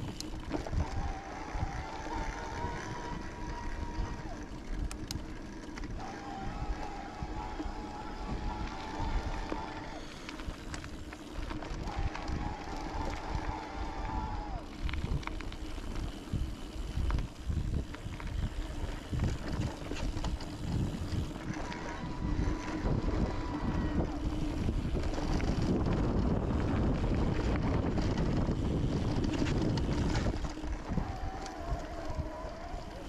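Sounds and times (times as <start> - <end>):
bike rattling and clattering: 0.0 - 33.0
bike tyres rumbling over rock: 0.0 - 33.0
wind buffeting microphone: 0.0 - 33.0.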